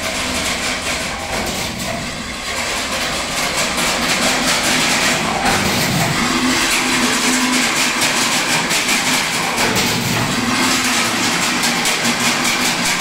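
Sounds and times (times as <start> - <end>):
fence weaving machine clattering: 0.0 - 13.0.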